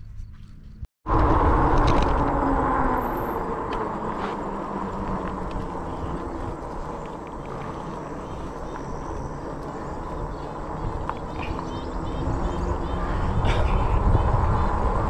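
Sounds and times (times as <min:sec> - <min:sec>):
wind rush on microphone: 0:00.2 - 0:15.0
tyres rolling on pavement: 0:01.1 - 0:15.0.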